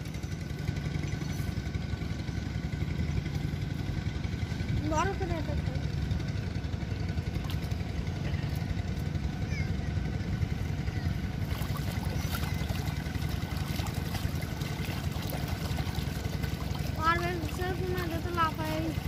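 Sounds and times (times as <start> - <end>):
water sloshing and splashing: 0.0 - 9.4, 10.5 - 19.0
steady low rumble: 0.0 - 19.0.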